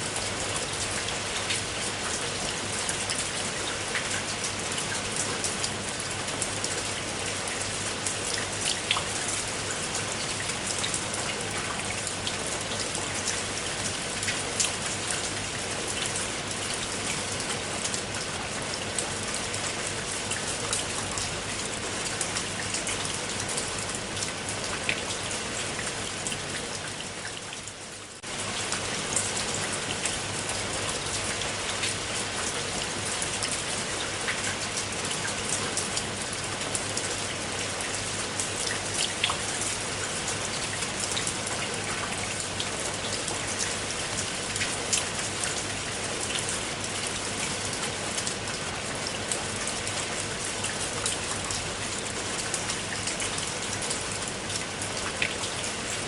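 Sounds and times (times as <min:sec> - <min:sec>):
steady rain with dripping taps: 0:00.0 - 0:56.0.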